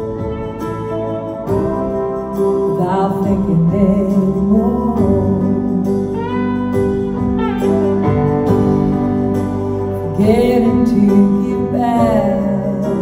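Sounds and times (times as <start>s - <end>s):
gliding lead melody: 0.0s - 13.0s
rock band playing ballad: 0.0s - 13.0s.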